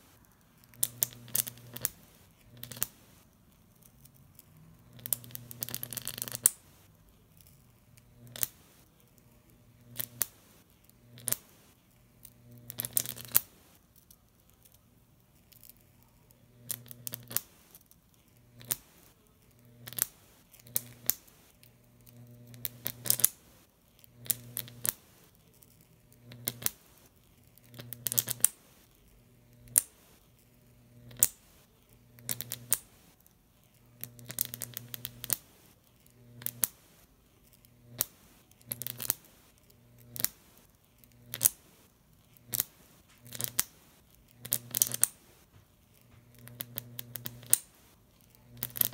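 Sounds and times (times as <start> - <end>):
electric arc crackling and buzzing: 0.0 - 48.9
low electrical hum: 0.0 - 48.9.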